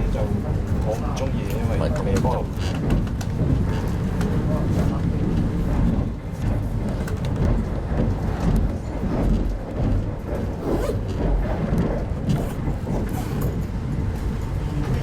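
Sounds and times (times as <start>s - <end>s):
train coach running rumble: 0.0s - 15.0s.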